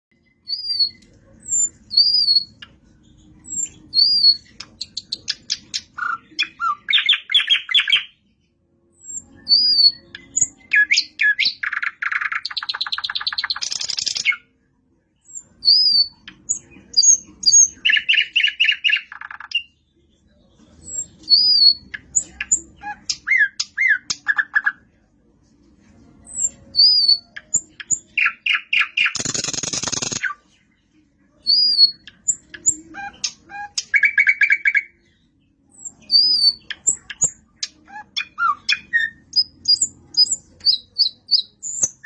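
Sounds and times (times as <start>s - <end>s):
nightingale singing: 0.1s - 14.5s, 15.2s - 24.8s, 26.2s - 42.0s.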